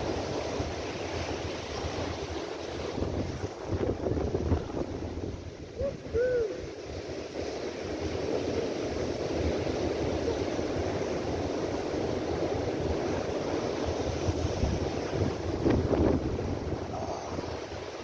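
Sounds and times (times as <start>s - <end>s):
sea surf breaking over boulders: 0.0s - 18.0s
wind gusting on microphone: 0.0s - 18.0s.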